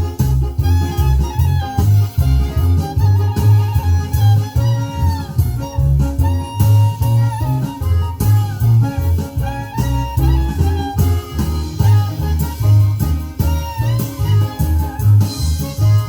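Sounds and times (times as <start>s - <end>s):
instrumental music with bass line: 0.0s - 16.0s.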